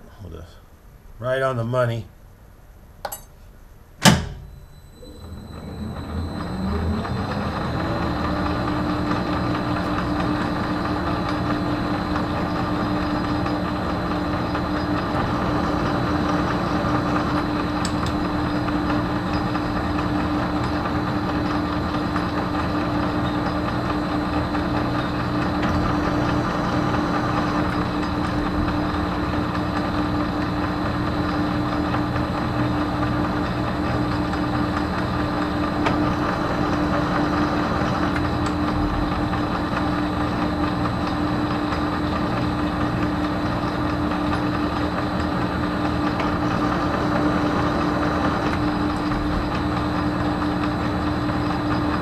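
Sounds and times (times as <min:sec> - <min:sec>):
metal lathe humming: 0:04.6 - 0:52.0.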